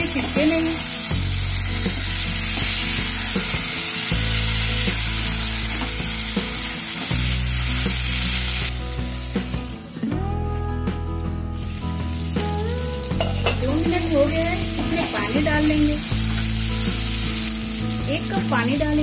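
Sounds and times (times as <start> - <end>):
vegetables sizzling in a pan: 0.0 - 9.7, 11.6 - 19.0.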